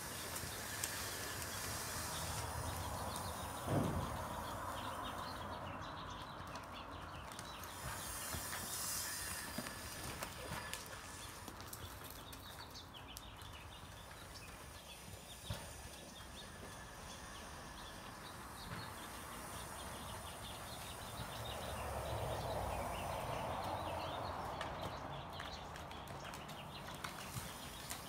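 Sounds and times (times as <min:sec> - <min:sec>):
high ticks and chirps: 0:00.0 - 0:28.0
horse hoofbeats on sand: 0:00.0 - 0:28.0.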